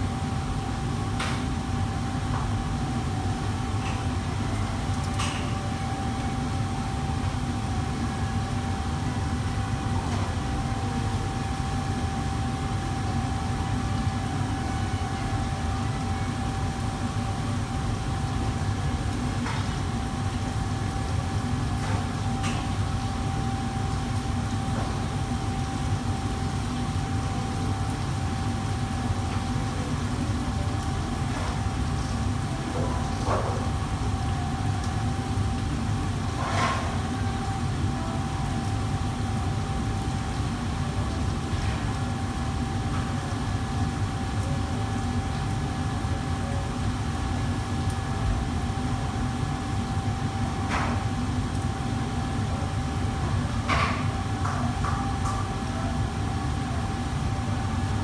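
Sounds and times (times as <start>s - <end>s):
wok range and exhaust hood roar: 0.0s - 58.0s.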